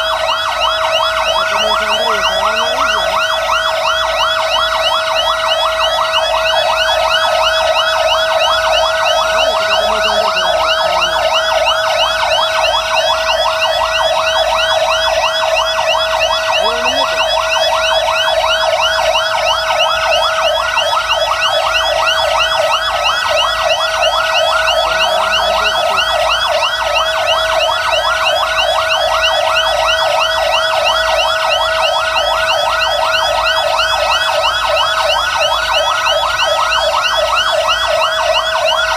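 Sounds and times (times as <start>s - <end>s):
fire engine sirens: 0.0s - 38.9s.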